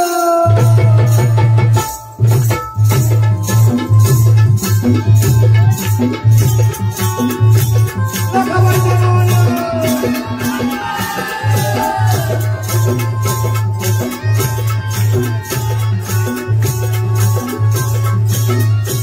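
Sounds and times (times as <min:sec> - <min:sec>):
jingling rattling accompaniment: 0:00.0 - 0:19.0
percussion beat: 0:00.0 - 0:19.0
sliding melody line: 0:00.6 - 0:19.0.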